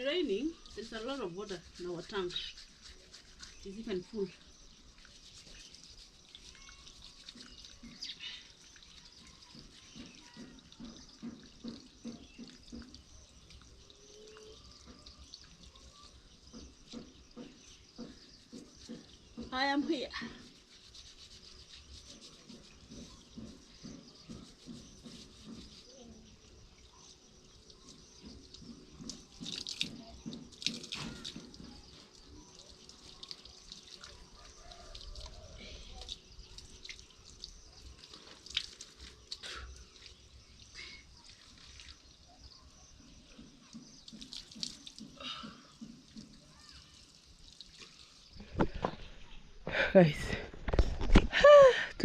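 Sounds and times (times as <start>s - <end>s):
faint water dripping: 0.0s - 48.8s.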